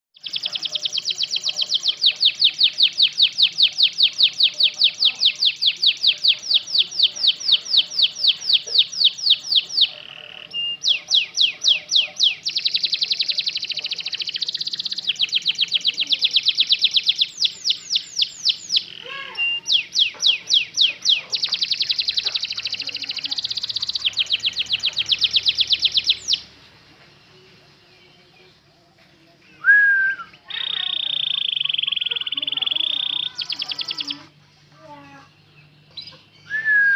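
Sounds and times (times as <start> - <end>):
canary singing trills: 0.2 - 26.6, 30.2 - 36.8.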